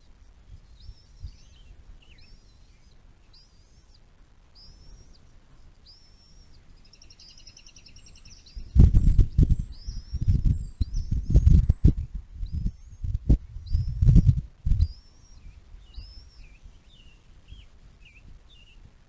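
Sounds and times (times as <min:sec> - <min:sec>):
bird chirping and trilling: 0:00.6 - 0:04.0, 0:04.6 - 0:18.8.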